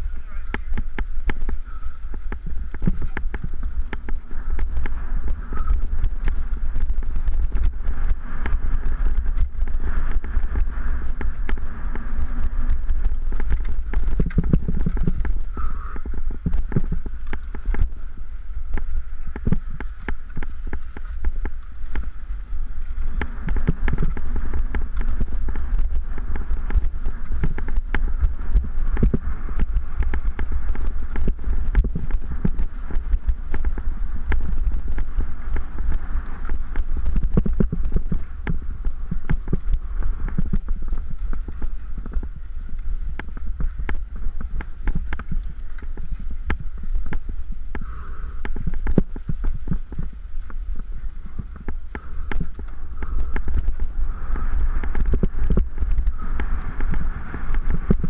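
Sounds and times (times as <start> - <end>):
bike clicks and rattles: 0.0 - 58.0
wind and vibration rumble: 0.0 - 58.0.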